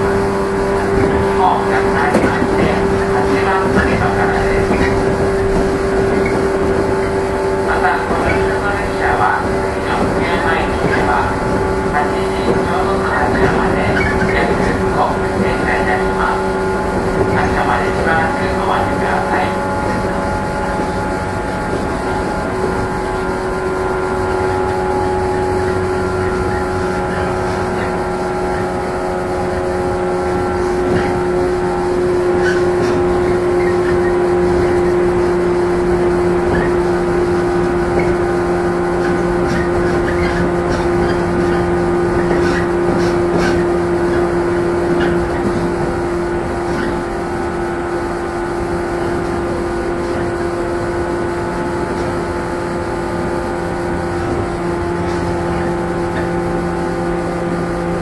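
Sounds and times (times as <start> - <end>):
traction motor hum: 0.0 - 58.0
wheels rumbling on rails: 0.0 - 58.0.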